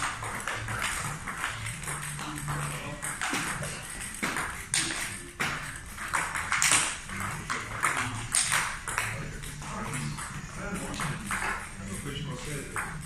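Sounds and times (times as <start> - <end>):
table tennis ball clicks: 0.0 - 13.0.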